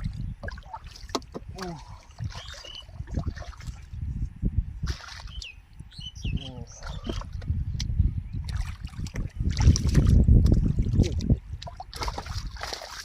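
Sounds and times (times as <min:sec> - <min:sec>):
water sloshing and splashing: 0:00.0 - 0:05.9, 0:06.6 - 0:13.0.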